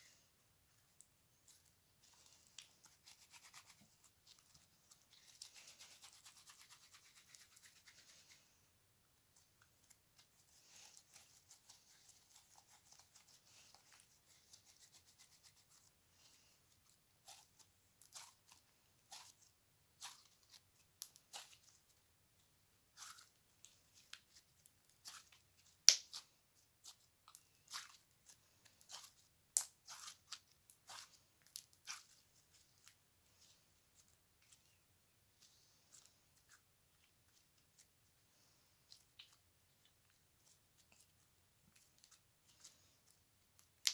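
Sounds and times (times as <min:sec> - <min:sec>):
slime rustling: 0:00.0 - 0:08.6, 0:09.2 - 0:43.9.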